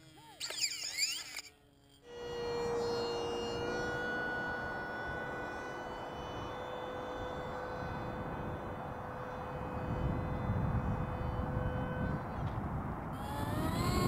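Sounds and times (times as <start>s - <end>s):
model airplane engine whine: 0.0s - 14.0s.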